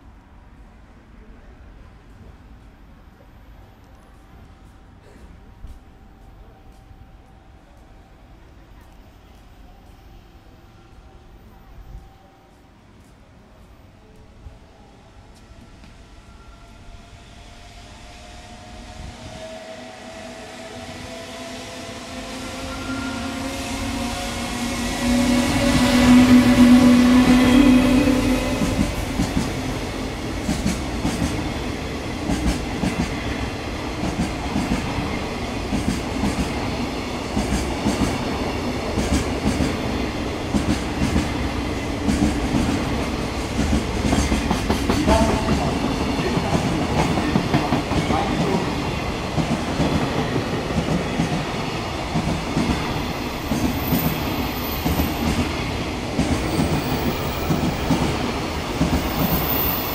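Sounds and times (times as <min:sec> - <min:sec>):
freight train rumbling past: 0:10.4 - 0:59.9.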